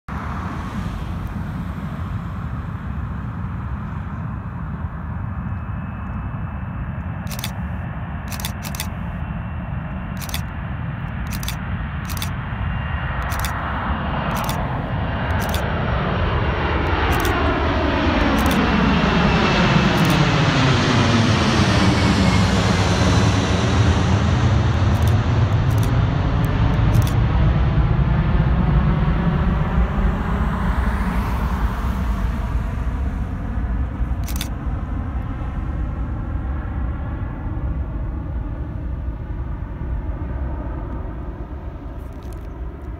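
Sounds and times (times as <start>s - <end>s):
jet plane taking off overhead: 0.1s - 42.9s.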